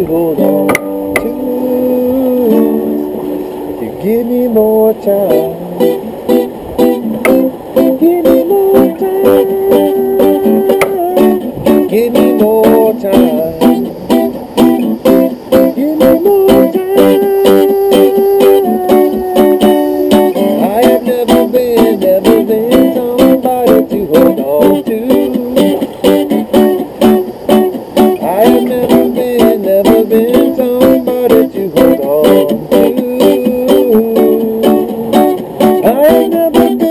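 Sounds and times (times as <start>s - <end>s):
guitar picking and strumming: 0.0s - 36.9s.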